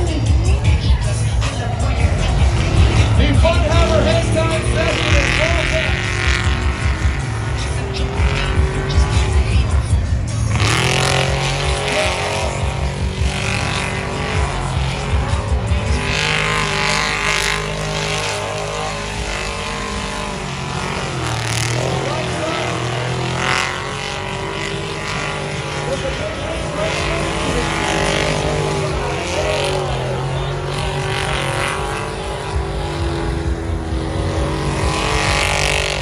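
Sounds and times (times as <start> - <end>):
car engines revving hard: 0.0 - 36.0.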